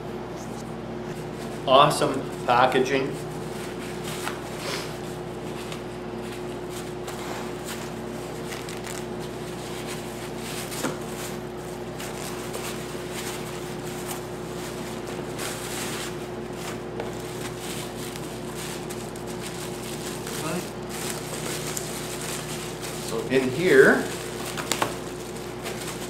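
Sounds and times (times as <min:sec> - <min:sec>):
steady hum: 0:00.0 - 0:26.0
paper and plastic rustling: 0:01.4 - 0:26.0.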